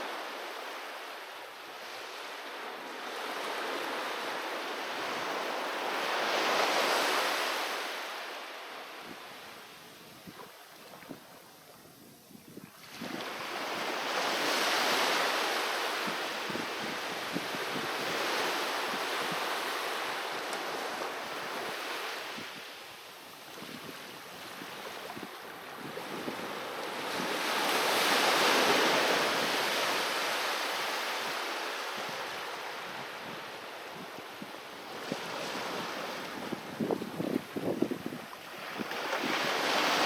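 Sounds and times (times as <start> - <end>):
sea waves breaking on shore: 0.0 - 11.6, 12.8 - 40.0.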